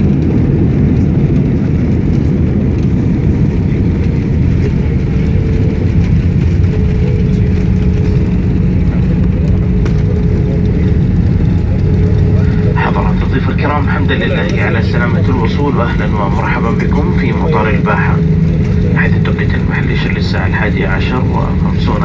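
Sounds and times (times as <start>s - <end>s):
airliner engine rumble in cabin: 0.0s - 22.0s.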